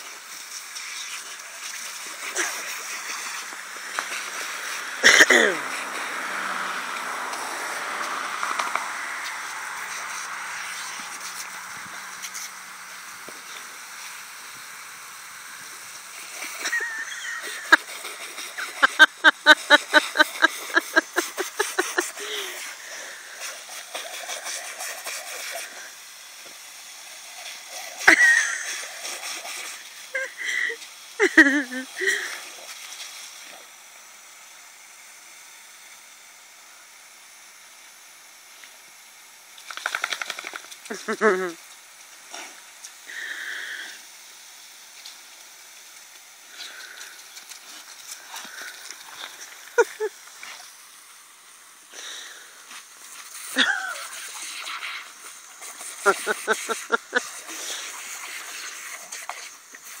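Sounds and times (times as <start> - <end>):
water spraying from hose: 0.0 - 60.0.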